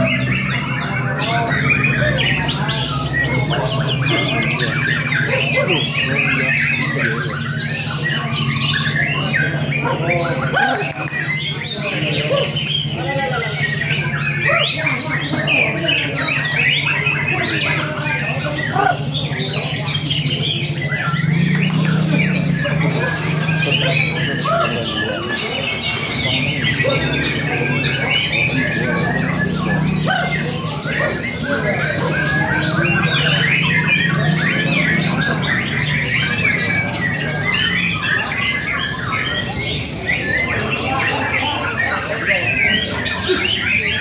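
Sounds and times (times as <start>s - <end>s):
many songbirds singing: 0.0s - 44.0s.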